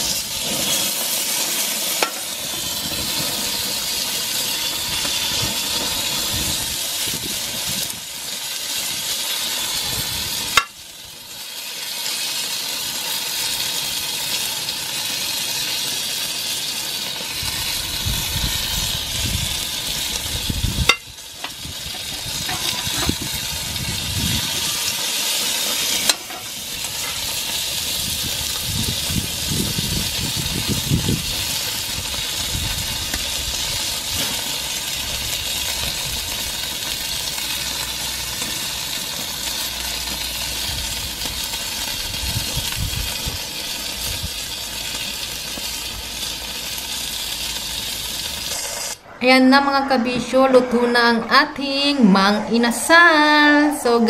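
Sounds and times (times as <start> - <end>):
chicken sizzling on a grill: 0.0 - 49.0.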